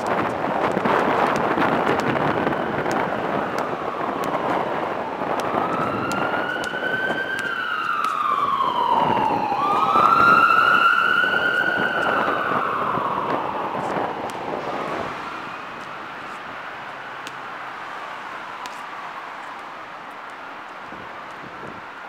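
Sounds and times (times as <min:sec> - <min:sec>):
siren wailing: 0:00.0 - 0:21.8
traffic noise: 0:00.0 - 0:22.0.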